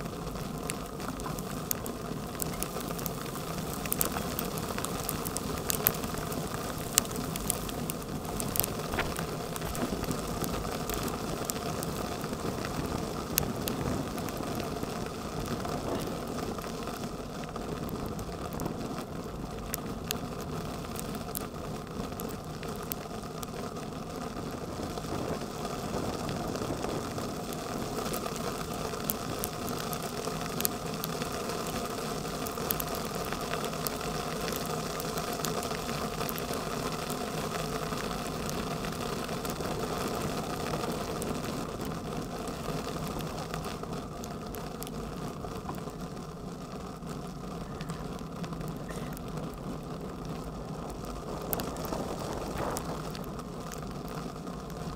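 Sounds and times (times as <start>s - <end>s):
bicycle tyres rumbling on asphalt: 0.0s - 54.9s
hailstones ticking on bike: 0.0s - 54.9s.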